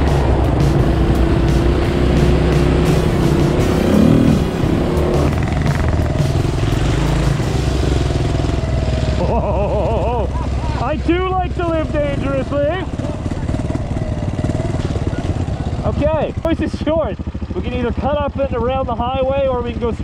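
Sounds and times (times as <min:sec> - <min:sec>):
motorcycle engine revving: 0:00.0 - 0:20.0
motorcycle engines running: 0:00.0 - 0:20.0.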